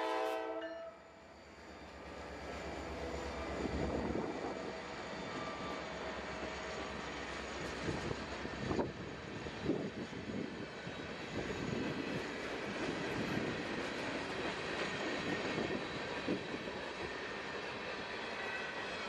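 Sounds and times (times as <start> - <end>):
freight train wheels rumbling: 1.2 - 19.0.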